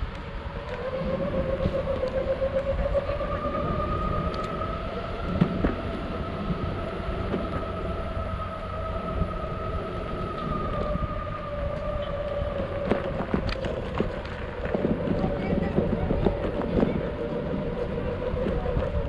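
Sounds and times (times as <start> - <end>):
electric skateboard motor whining: 0.0 - 19.0
wheels rolling on concrete: 0.0 - 19.0.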